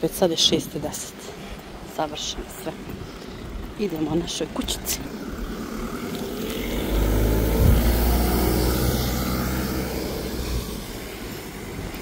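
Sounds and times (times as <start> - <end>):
motor vehicle engine humming: 0.0 - 12.0.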